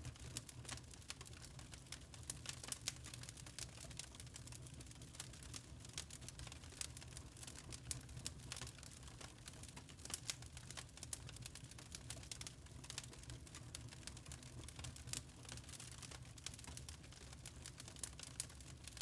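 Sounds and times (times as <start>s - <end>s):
charcoal crackling and popping: 0.0s - 19.0s.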